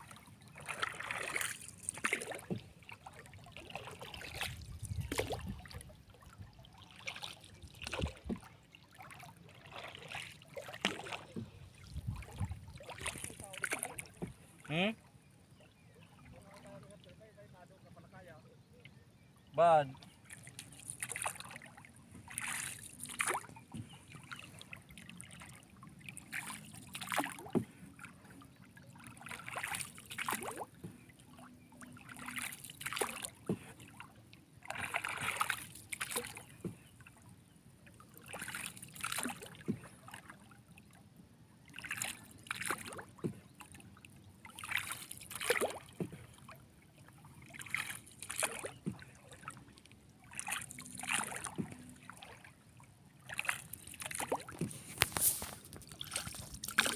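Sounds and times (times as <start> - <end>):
water sloshing and splashing: 0.0 - 56.9.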